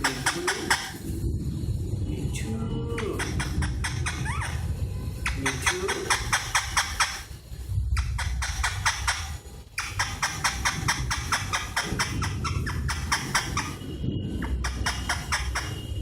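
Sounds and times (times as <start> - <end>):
fast rhythmic ticking: 3.0 - 16.0.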